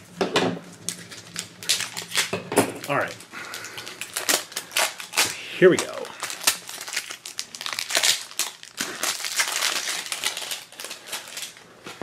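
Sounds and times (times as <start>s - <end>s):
plastic wrapping crinkling: 0.7s - 12.0s.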